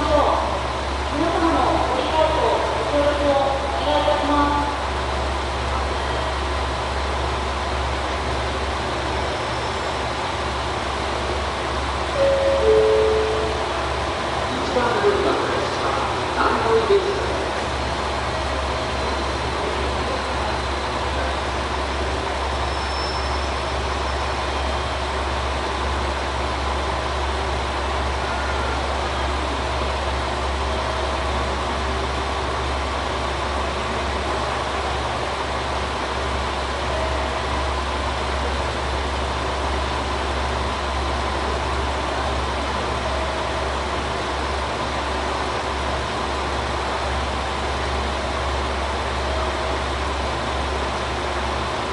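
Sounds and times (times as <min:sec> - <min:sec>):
diesel engines idling: 0:00.0 - 0:51.9.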